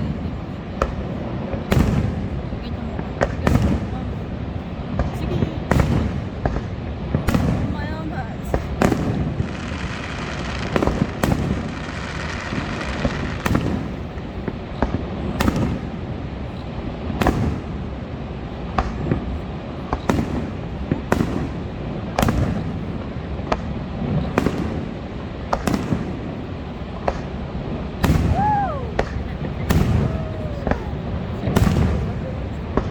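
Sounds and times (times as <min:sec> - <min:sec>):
background rumble: 0:00.0 - 0:32.9
fireworks bangs: 0:00.0 - 0:32.9
fireworks crackling: 0:00.0 - 0:32.9.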